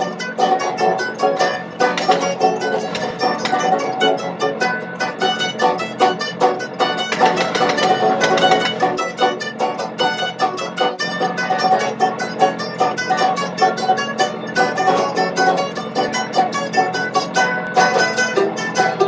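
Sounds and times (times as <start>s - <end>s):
fast-picked plucked strings: 0.0s - 19.0s.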